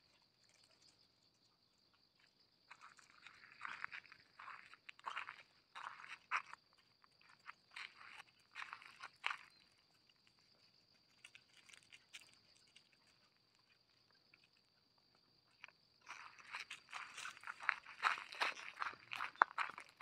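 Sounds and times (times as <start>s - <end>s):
footsteps crunching on gravel: 2.7s - 14.7s, 15.5s - 20.0s.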